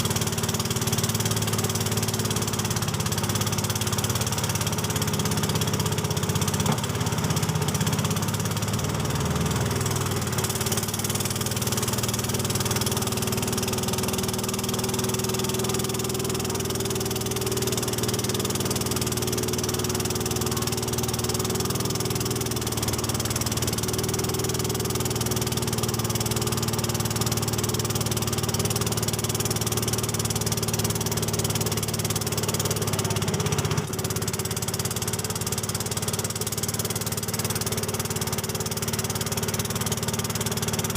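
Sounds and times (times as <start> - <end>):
motorboat engine running: 0.0 - 40.9.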